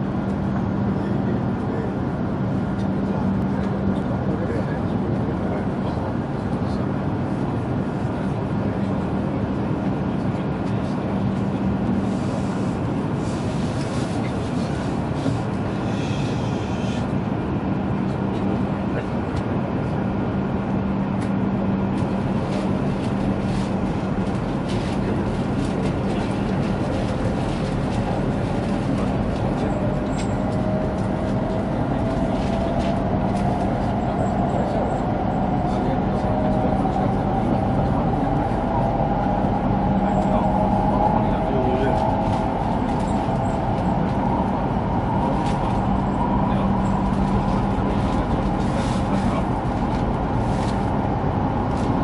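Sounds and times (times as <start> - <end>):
train cabin hum and running noise: 0.0 - 52.0.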